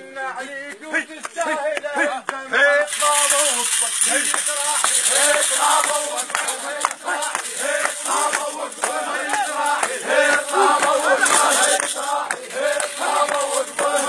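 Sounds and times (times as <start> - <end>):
men chanting together: 0.0 - 14.0.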